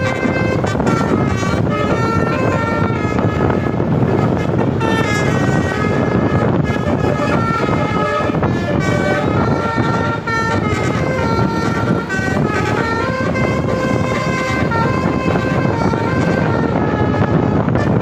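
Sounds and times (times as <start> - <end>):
musical air horn melody: 0.0 - 18.0
road and engine noise: 0.0 - 18.0.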